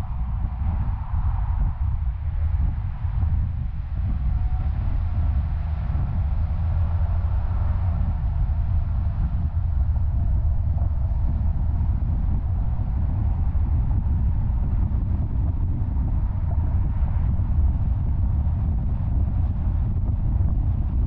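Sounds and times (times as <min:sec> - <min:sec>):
car driving at highway speed: 0:00.0 - 0:21.0.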